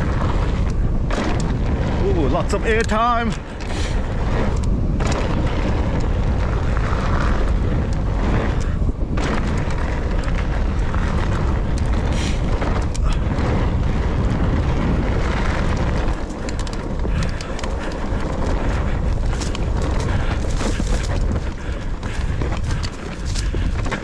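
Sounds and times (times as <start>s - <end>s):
bike knocks and rattles: 0.0s - 24.0s
tyres on loose ground: 0.0s - 24.0s
wind on microphone: 0.0s - 24.0s.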